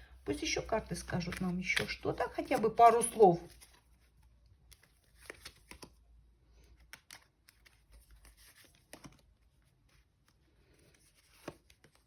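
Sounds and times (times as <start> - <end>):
cards flicking and rustling: 1.0 - 12.0.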